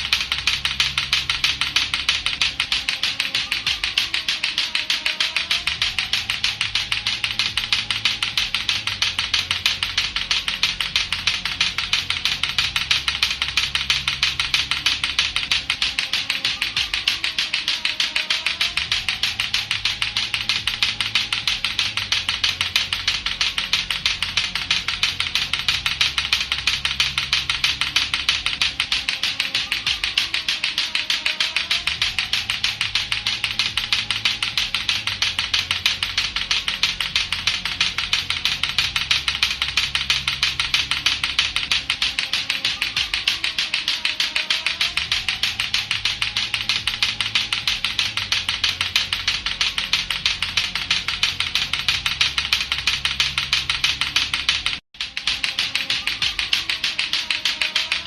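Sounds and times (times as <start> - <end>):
low backing music loop: 0.0 - 58.0
plastic ball clackers clicking: 0.0 - 58.0.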